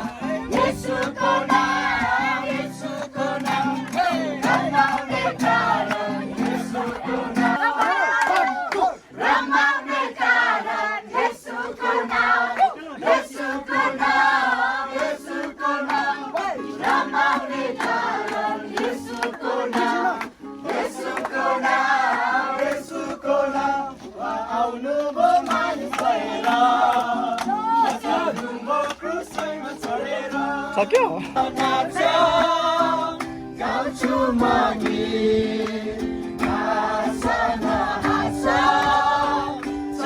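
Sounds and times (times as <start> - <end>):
group singing worship song: 0.0 - 40.0.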